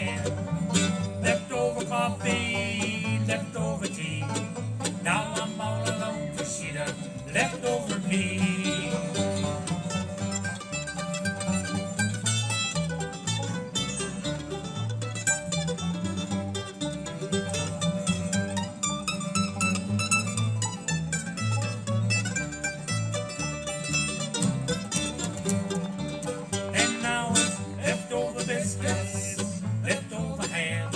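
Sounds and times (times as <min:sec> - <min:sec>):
bluegrass band playing: 0:00.0 - 0:30.9.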